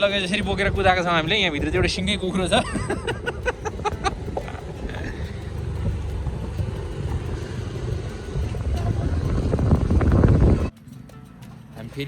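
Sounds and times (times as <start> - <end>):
wind on microphone: 0.0 - 10.7
motorcycle engine and road noise: 0.0 - 12.0.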